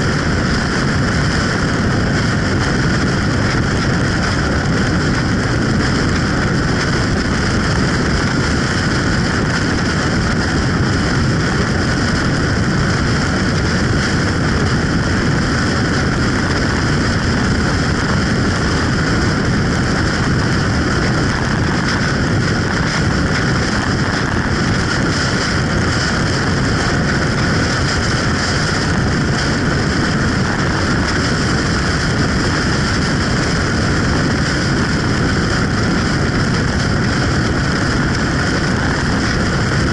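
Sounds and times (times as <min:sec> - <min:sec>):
motorcycle engine running: 0:00.0 - 0:39.9
motorcycle road noise: 0:00.0 - 0:39.9
wind rush: 0:00.0 - 0:39.9.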